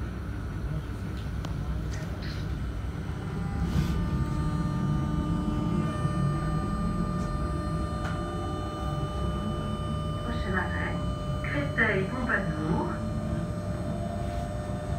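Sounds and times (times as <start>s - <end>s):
traction motor whining: 2.6s - 14.9s.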